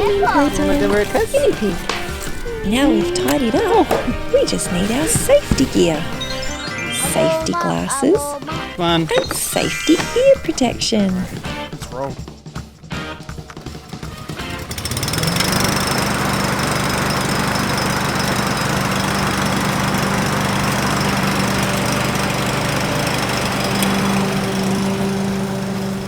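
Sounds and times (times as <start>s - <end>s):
lawn mower engine running: 0.0s - 12.1s, 12.9s - 26.0s.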